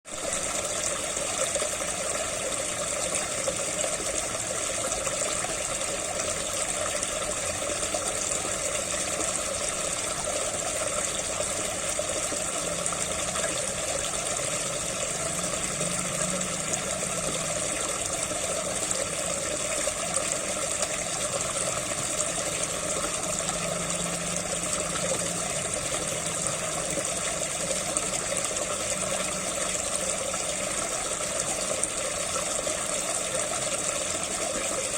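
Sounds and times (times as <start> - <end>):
water gushing and splashing: 0.1 - 34.9.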